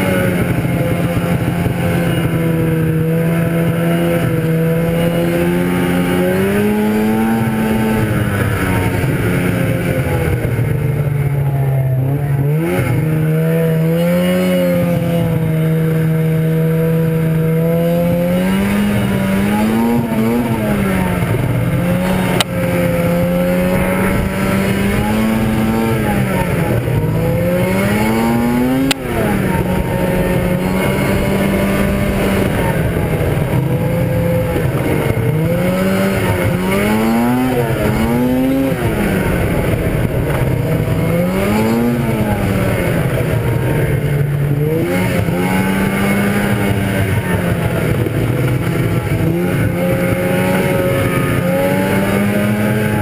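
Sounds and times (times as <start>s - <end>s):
snowmobile engine running: 0.0s - 53.0s.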